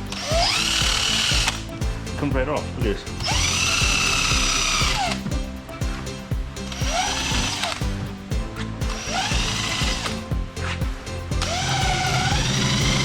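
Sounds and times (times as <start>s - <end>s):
drill whining: 0.0s - 1.7s, 3.2s - 5.6s, 6.6s - 13.0s
background music with beat: 0.0s - 13.0s.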